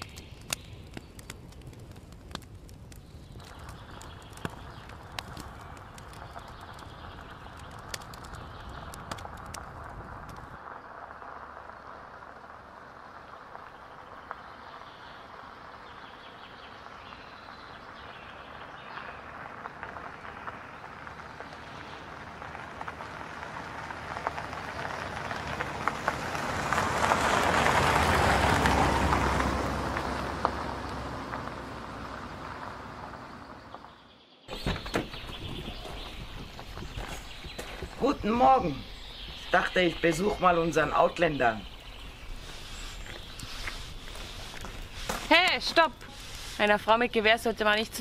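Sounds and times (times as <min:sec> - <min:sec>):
tyres crunching on gravel: 0:03.0 - 0:48.0.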